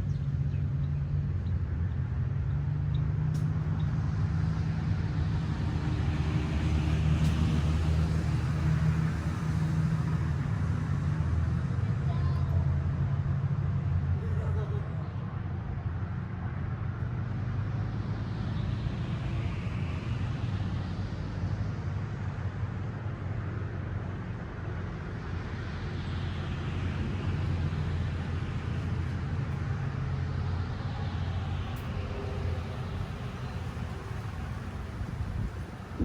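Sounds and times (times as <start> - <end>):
low outdoor rumble: 0.0 - 36.0.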